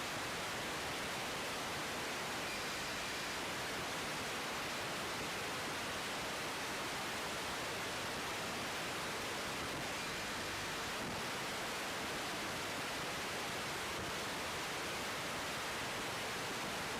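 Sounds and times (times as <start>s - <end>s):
steady hiss: 0.0s - 16.9s.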